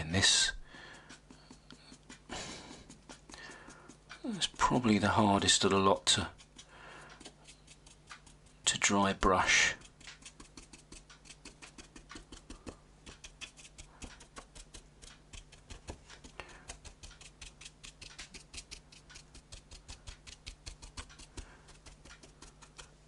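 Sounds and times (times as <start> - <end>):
low steady hum: 0.0 - 23.0
paintbrush scratching foam board: 0.0 - 23.0.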